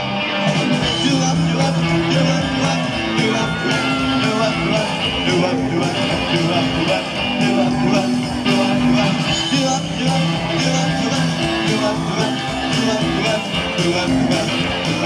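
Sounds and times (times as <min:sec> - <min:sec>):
electric guitar chords: 0:00.0 - 0:15.0
rock band playing live: 0:00.0 - 0:15.0.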